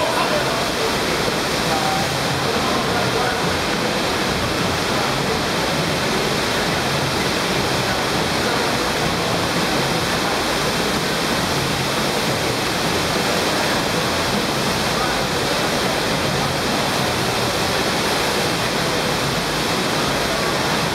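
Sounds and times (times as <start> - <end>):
rushing water sheet: 0.0 - 20.9.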